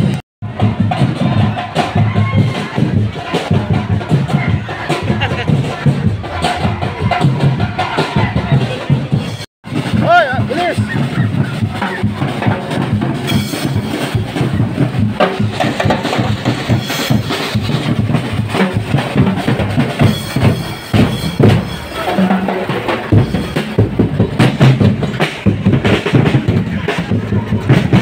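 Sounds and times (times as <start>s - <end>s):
drums playing steady beat: 0.0s - 28.0s.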